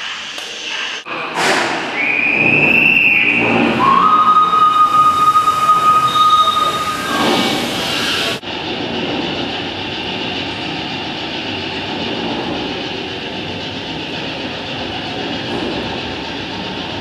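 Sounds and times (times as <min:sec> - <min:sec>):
train rumble and hiss: 0:00.0 - 0:17.0.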